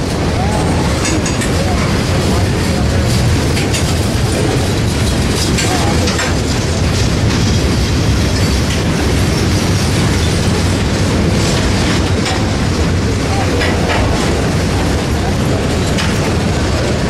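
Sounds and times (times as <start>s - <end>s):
train wheels rumbling on rail: 0.0s - 17.0s
wheels clicking over rail joints: 0.0s - 17.0s.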